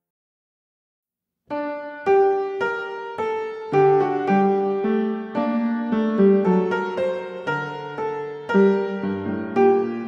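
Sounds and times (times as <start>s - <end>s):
piano music: 1.5s - 10.0s.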